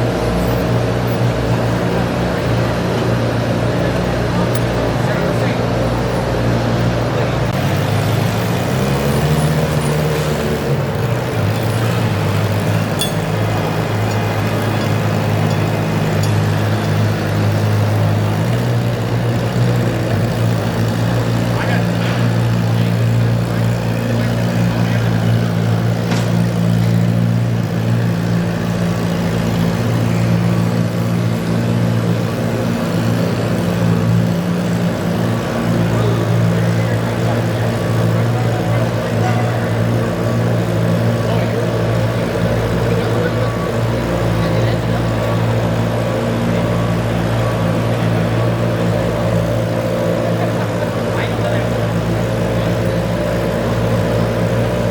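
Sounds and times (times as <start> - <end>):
garden tractor engine running: 0.0 - 54.9.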